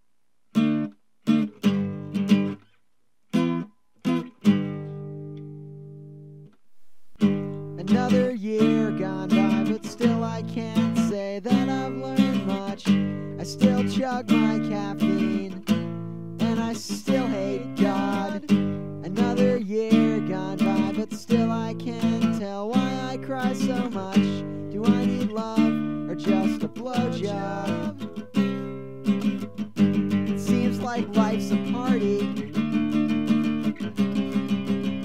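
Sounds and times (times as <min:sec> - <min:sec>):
acoustic guitar strumming chords: 0:00.6 - 0:02.6, 0:03.3 - 0:35.0.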